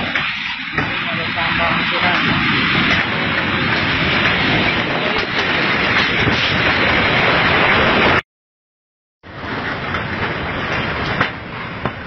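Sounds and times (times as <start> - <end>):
earthquake rushing roar: 0.0 - 8.2, 9.2 - 12.0.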